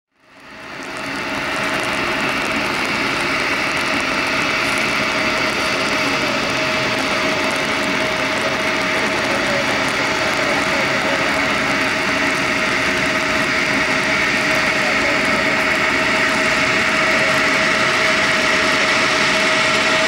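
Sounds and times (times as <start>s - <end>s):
jet engine noise with whine: 0.1s - 20.0s.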